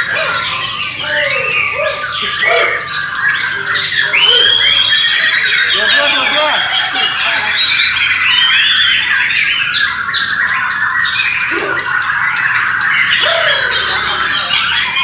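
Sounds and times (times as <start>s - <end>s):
low swooping bird calls: 0.0s - 15.0s
songbirds singing: 0.0s - 15.0s.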